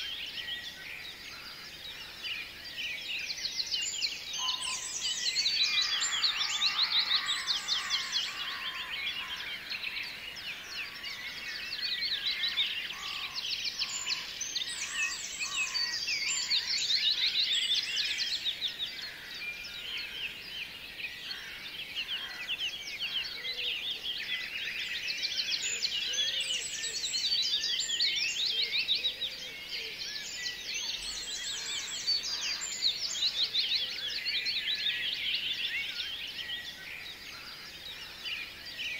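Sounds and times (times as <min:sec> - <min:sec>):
chorus of small birds chirping: 0:00.0 - 0:38.9.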